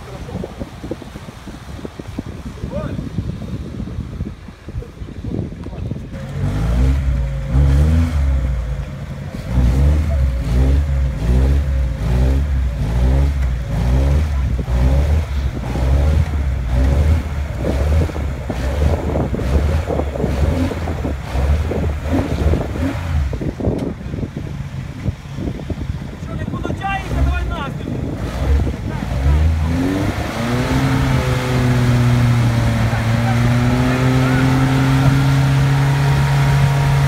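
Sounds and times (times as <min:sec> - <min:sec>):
car engine revving: 0:06.0 - 0:37.0.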